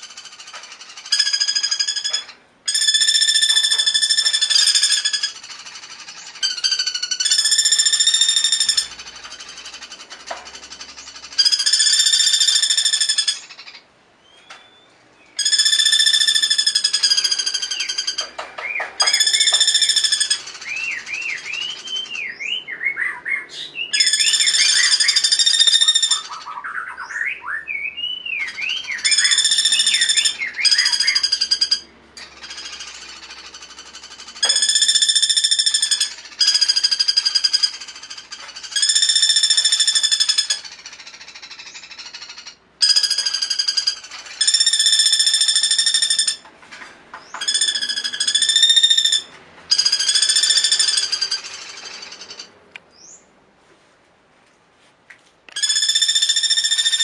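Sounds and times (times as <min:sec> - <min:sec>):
buzzy rattling bird trills: 0:00.0 - 0:13.8, 0:15.4 - 0:22.1, 0:24.0 - 0:26.6, 0:28.5 - 0:46.4, 0:47.2 - 0:52.5.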